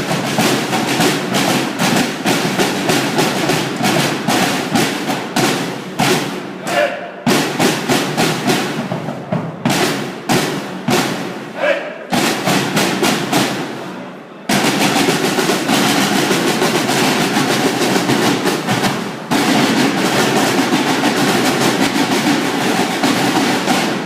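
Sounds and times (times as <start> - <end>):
loud fast drum roll: 0.0 - 6.5, 7.2 - 13.8, 14.5 - 24.0
drum hits: 0.0 - 13.8, 14.5 - 24.0.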